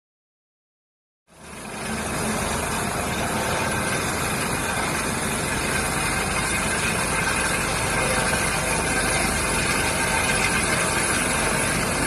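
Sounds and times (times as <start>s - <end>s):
helicopter rotor and engine: 1.8s - 12.0s.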